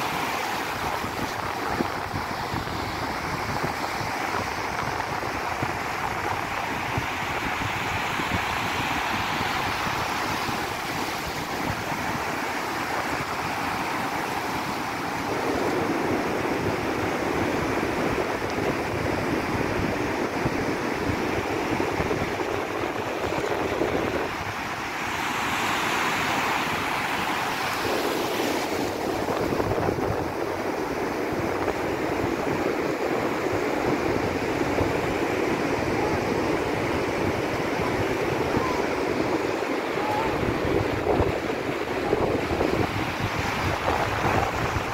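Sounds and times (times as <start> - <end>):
surf breaking on beach: 0.0 - 44.9
wind buffeting microphone: 0.0 - 44.9.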